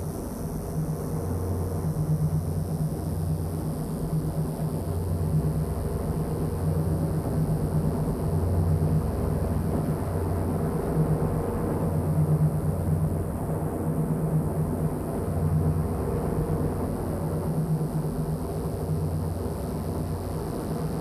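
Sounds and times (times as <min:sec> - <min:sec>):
low droning electronic hum: 0:00.0 - 0:21.0.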